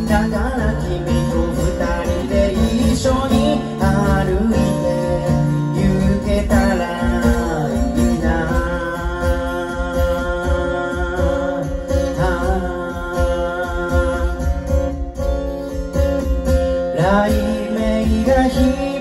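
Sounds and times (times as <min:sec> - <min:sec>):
man singing: 0:00.0 - 0:15.0, 0:16.8 - 0:19.0
acoustic guitar strumming: 0:00.0 - 0:19.0.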